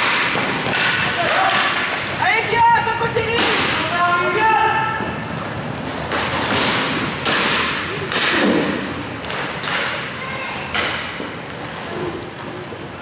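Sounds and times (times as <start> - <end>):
hockey sticks knocking puck: 0.0 - 13.0.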